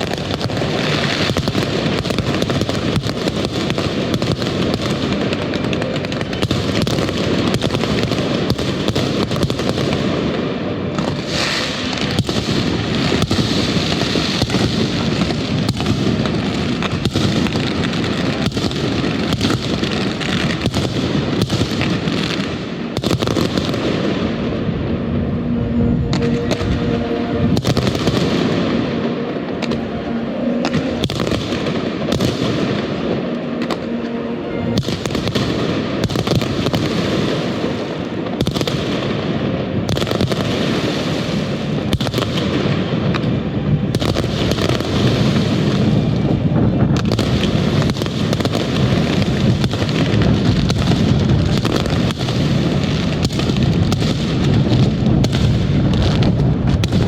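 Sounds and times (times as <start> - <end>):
fireworks bursting and crackling: 0.0 - 57.0
music with held notes: 0.6 - 52.9.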